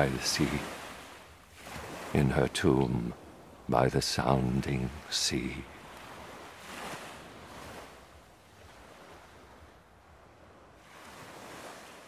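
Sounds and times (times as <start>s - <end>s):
sea waves washing in: 0.0s - 12.0s.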